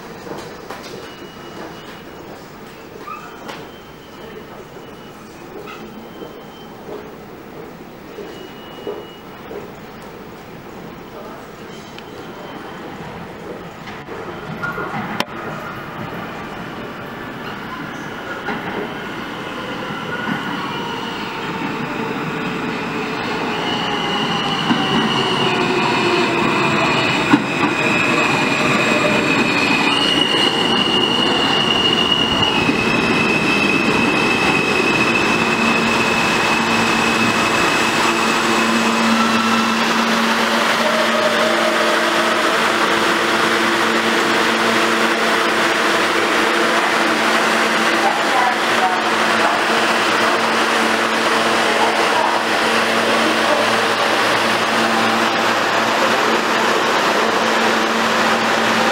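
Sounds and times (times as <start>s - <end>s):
low hum of standing train: 0.0s - 58.9s
subway train braking: 0.0s - 58.9s.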